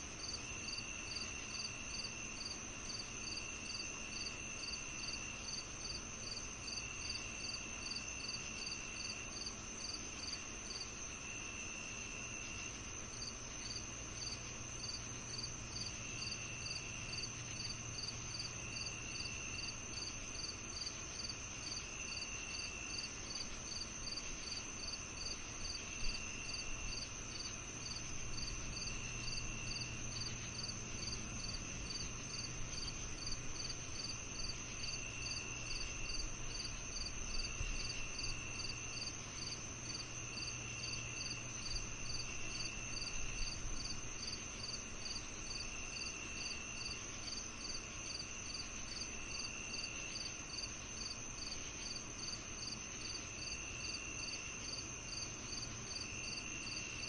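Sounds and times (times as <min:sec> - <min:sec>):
faint low hum: 0:00.0 - 0:57.0
lower insect trill: 0:00.0 - 0:57.0
regular cricket chirp: 0:00.0 - 0:57.0
steady high insect trill: 0:00.0 - 0:57.0.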